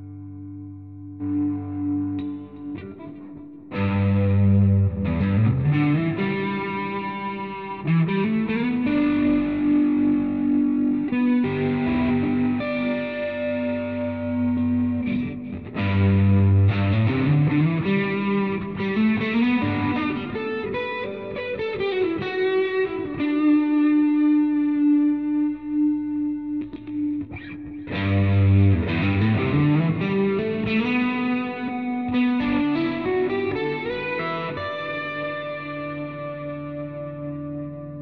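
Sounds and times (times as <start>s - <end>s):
electric guitar melody: 0.0s - 38.0s.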